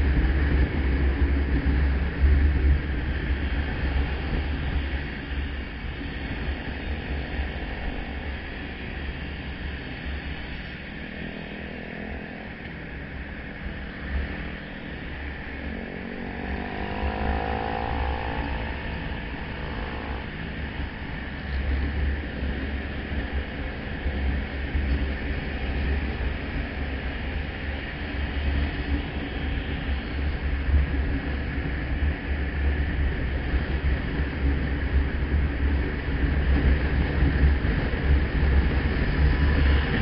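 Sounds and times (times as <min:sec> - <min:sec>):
motorcycle engine: 0:00.0 - 0:32.4
road noise: 0:00.0 - 0:40.0
wind rumble on microphone: 0:00.0 - 0:40.0.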